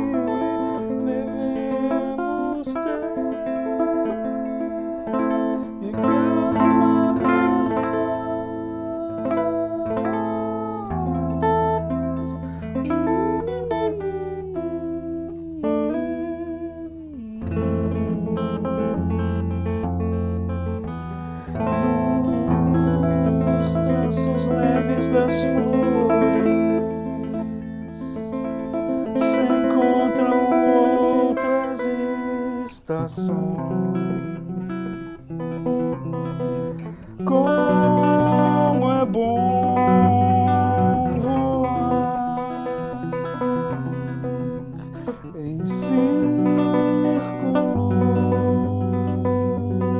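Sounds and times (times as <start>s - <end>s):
electric guitar solo: 0.0s - 49.9s.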